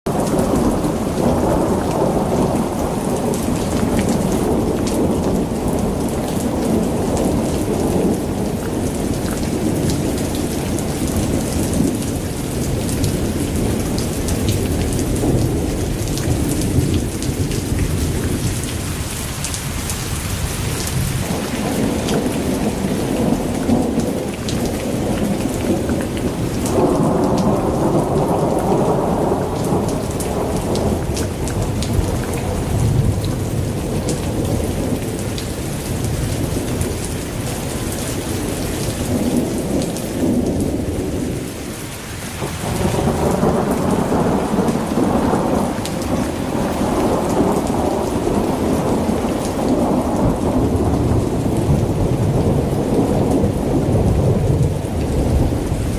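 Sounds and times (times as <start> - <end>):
heavy rain pouring: 0.1 - 55.9
raindrops ticking on hard surfaces: 0.1 - 55.9.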